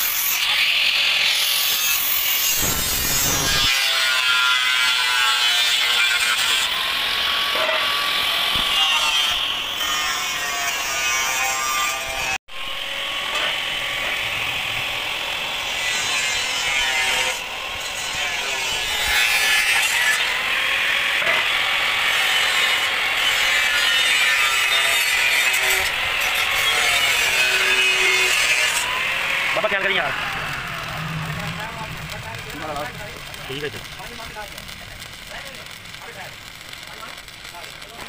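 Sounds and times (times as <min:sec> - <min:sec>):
welding arc crackling and hissing: 0:00.0 - 0:38.0.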